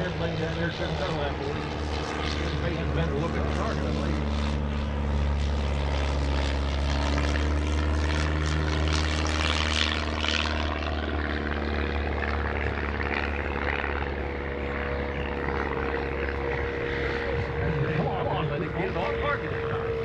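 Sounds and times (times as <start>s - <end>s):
propeller airplane flying past: 0.0s - 20.0s.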